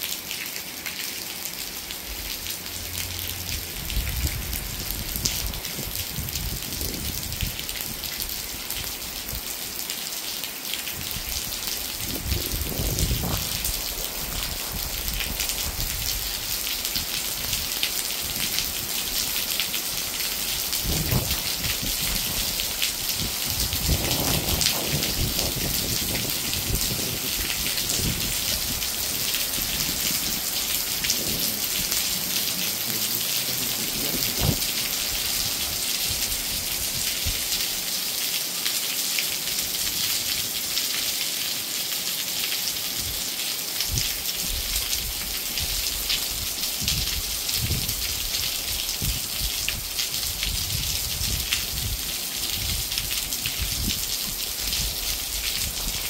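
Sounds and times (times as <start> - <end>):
heavy rain on trees and ground: 0.0 - 56.0.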